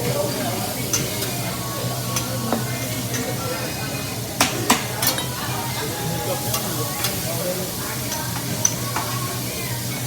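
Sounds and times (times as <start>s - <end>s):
food sizzling on a griddle: 0.0s - 10.0s.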